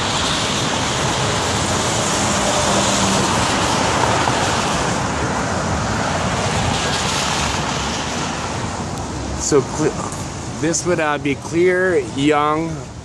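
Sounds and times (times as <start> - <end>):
wind noise: 0.0 - 10.7
road traffic roar: 0.0 - 13.0.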